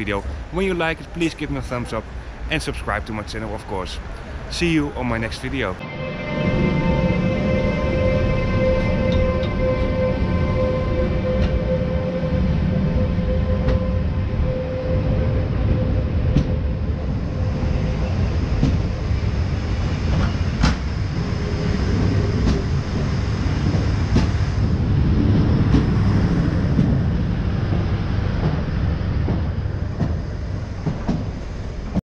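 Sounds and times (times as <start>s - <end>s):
steady hum: 0.0s - 32.0s
train wheels rumbling on rails: 0.0s - 32.0s.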